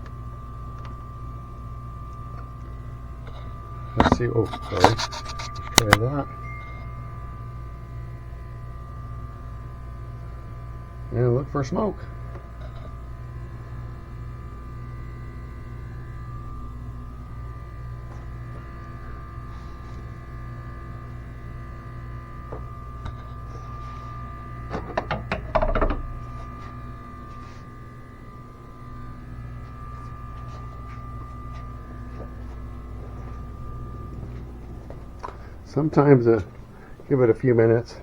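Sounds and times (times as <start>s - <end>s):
smoke machine pump humming: 0.0s - 38.0s.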